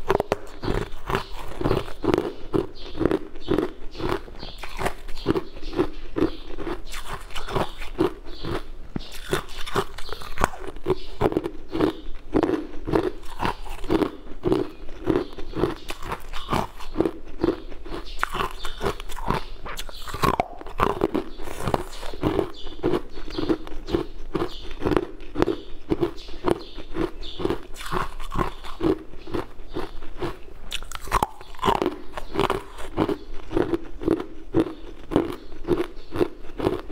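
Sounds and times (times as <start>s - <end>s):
ice cubes crunching between teeth: 0.0s - 36.9s.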